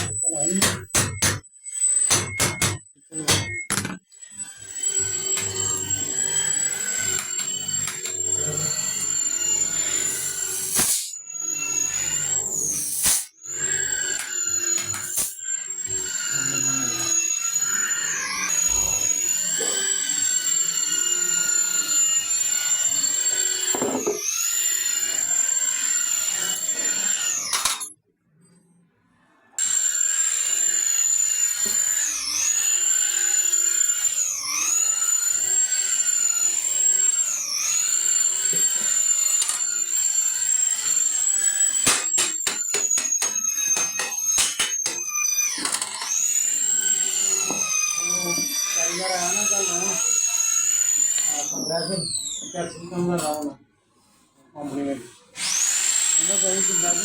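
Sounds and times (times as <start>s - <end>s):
electric power tool whining: 0.0s - 28.0s, 29.6s - 53.5s, 54.8s - 57.0s.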